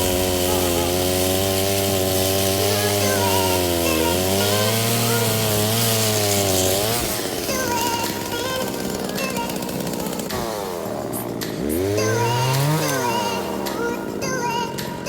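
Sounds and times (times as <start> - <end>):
chainsaw cutting branches: 0.0 - 15.0.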